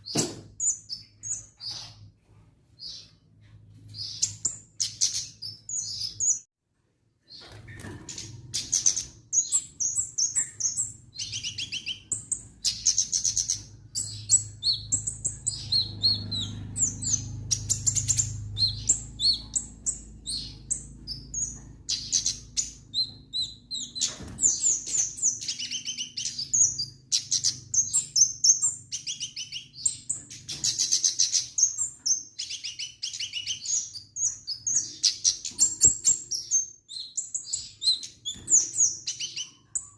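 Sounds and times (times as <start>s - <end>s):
songbird chirping and trilling: 0.0s - 6.5s, 7.2s - 39.9s.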